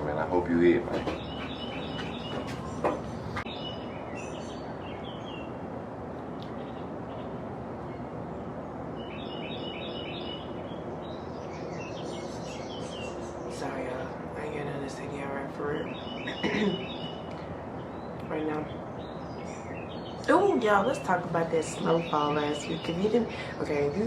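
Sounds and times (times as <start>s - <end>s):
steady background noise: 0.0s - 24.0s
small birds chirping: 0.2s - 5.6s, 6.4s - 24.0s.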